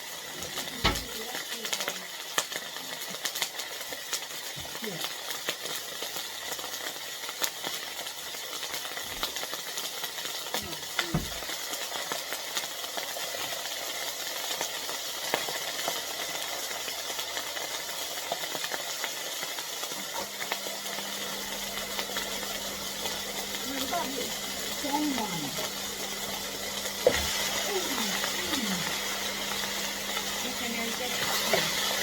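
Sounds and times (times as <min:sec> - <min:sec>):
chicken frying in oil: 0:00.0 - 0:32.0.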